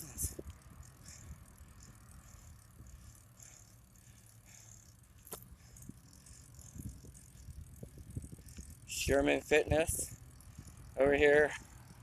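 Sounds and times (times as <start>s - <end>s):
bicycle rattling and rumbling: 0.0s - 12.0s.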